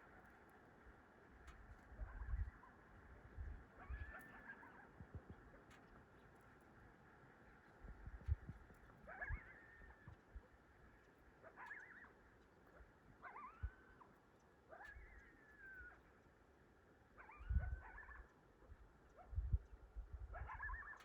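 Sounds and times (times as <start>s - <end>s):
coyotes howling and yipping: 1.4s - 5.9s, 8.2s - 21.0s.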